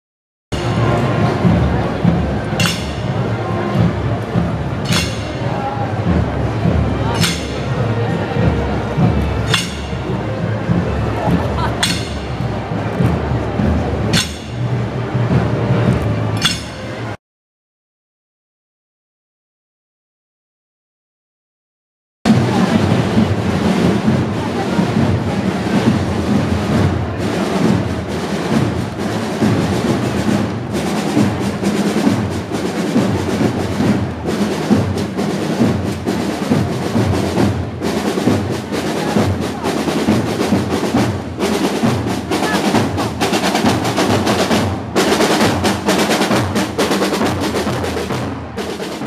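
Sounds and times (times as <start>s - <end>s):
marching drums: 0.5s - 17.2s, 22.3s - 49.0s.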